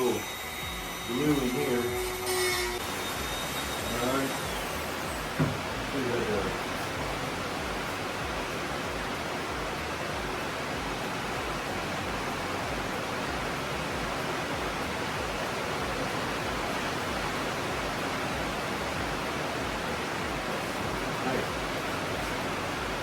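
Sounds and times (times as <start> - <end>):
rain on a tin roof: 0.0 - 2.0, 2.8 - 23.0.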